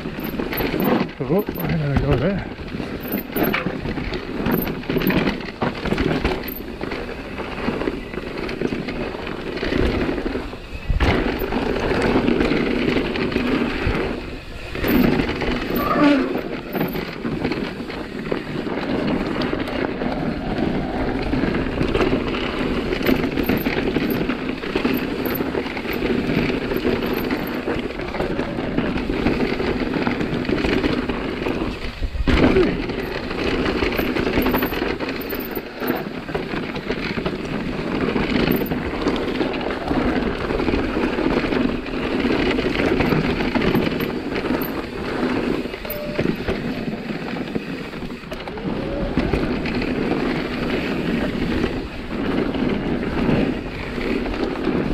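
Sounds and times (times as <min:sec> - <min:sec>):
bike tyres on dirt and gravel: 0:00.0 - 0:54.9.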